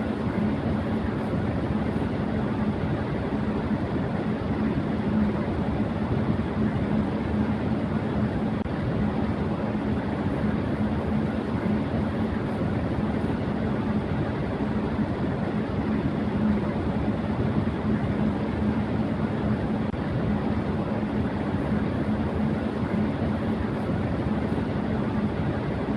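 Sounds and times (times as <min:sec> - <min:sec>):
electric fan running: 0:00.0 - 0:25.9.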